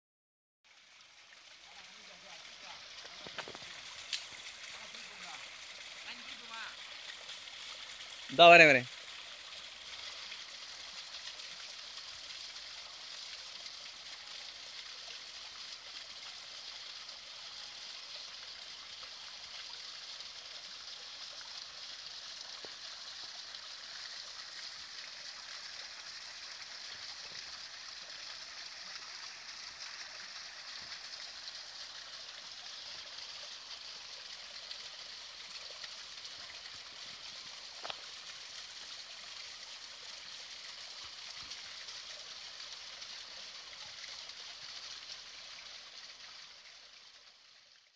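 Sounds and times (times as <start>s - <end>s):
stream trickling over rocks: 0.6s - 47.9s.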